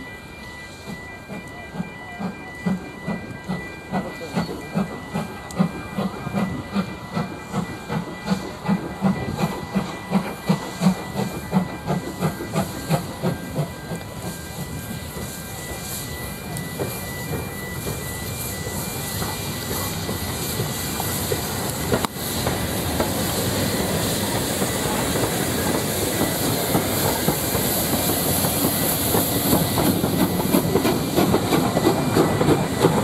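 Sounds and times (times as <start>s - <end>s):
steam locomotive exhaust chuff: 0.0s - 33.0s
hiss of steam: 0.6s - 33.0s.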